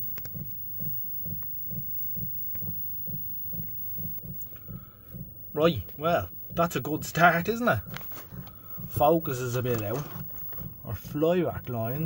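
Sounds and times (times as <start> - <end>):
low even pulsing: 0.0 - 12.0.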